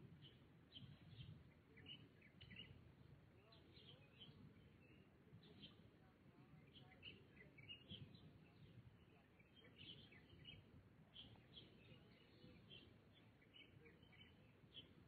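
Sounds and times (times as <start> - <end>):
small birds chirping: 0.1 - 2.8, 3.4 - 5.9, 6.5 - 15.0.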